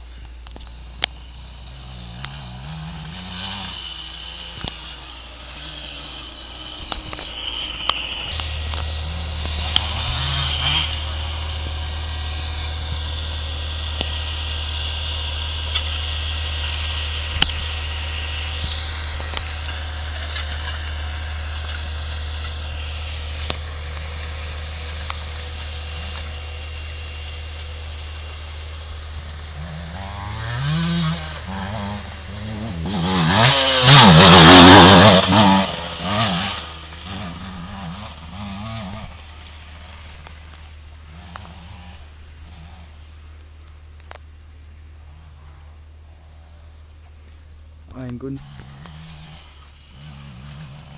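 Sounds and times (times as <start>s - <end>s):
distant motocross motorcycles: 0.0s - 50.9s
low hum: 0.0s - 50.9s
dirt bike revving past: 0.7s - 43.5s, 45.0s - 47.1s, 48.3s - 50.9s.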